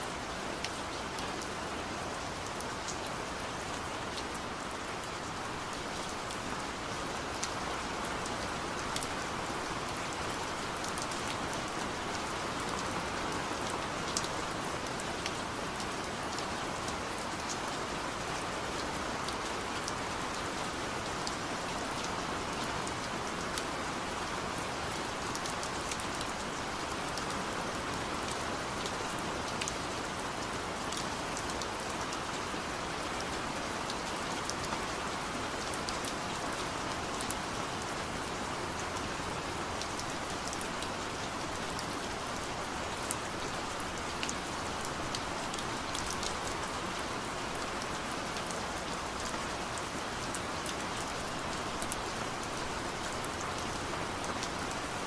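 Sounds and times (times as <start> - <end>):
rain hissing on a surface: 0.0 - 55.0.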